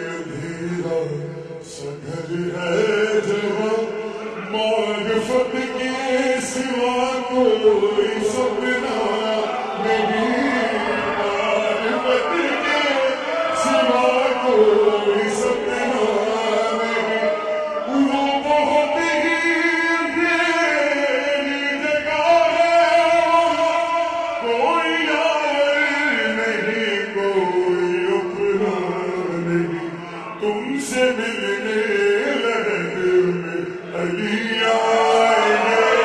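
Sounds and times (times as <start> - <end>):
man singing with reverb: 0.0 - 36.0.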